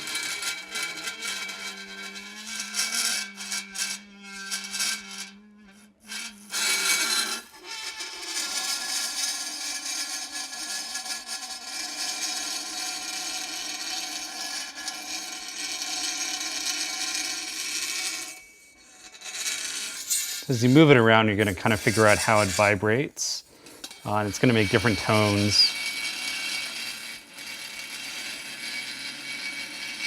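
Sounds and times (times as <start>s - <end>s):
metal squealing on dry ice: 0.0s - 30.0s.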